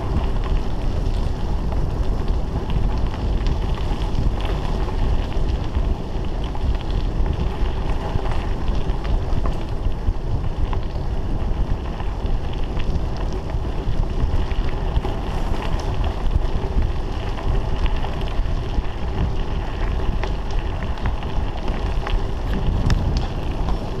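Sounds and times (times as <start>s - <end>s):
bicycle rattling: 0.0s - 24.0s
tyres rumbling on dirt: 0.0s - 24.0s
wind buffeting microphone: 0.0s - 24.0s.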